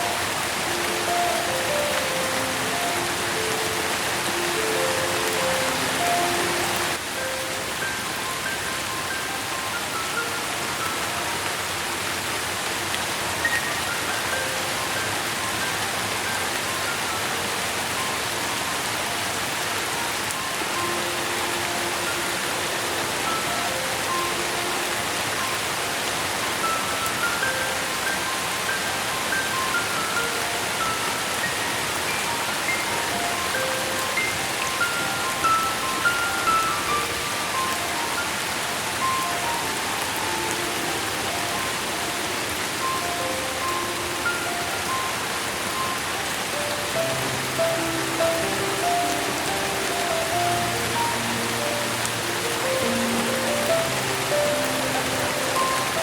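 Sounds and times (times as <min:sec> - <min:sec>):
soft slow melody: 0:00.0 - 0:56.0
steady rain hissing: 0:00.0 - 0:56.0.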